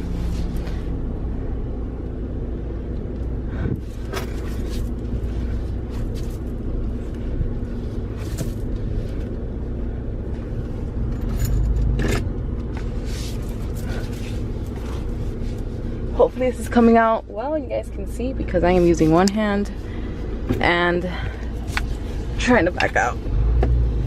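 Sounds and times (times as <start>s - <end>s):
pickup truck engine rumbling: 0.0s - 24.0s.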